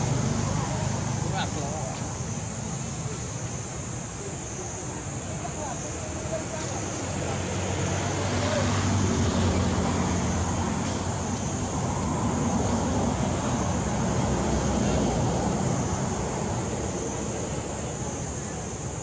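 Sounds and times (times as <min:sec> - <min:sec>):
outdoor background hiss and rumble: 0:00.0 - 0:19.0.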